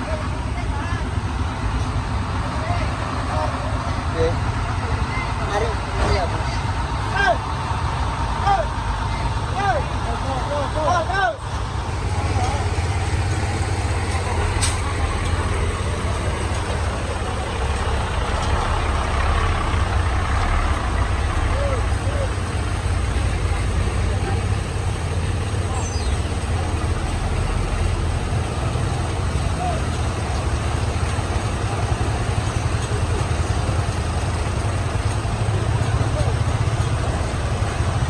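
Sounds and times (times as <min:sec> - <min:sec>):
diesel truck engine rumbling: 0:00.0 - 0:38.0.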